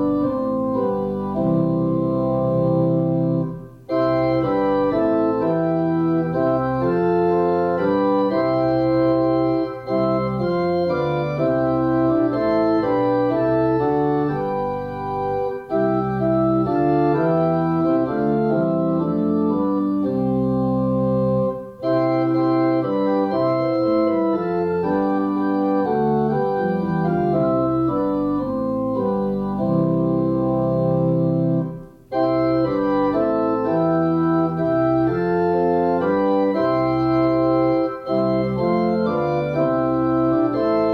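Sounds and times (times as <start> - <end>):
organ chords: 0.0 - 40.9.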